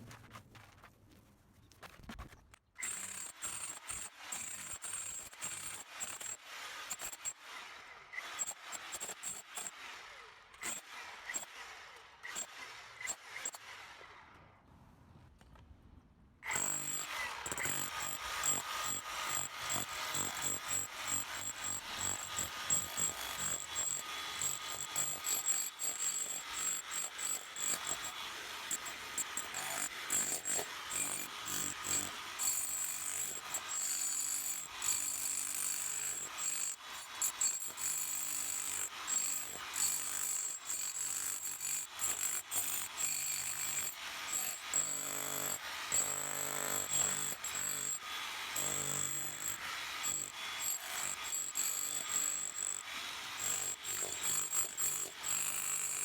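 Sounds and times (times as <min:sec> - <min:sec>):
rotary hammer chipping concrete: 0:02.8 - 0:11.7, 0:16.4 - 0:56.0.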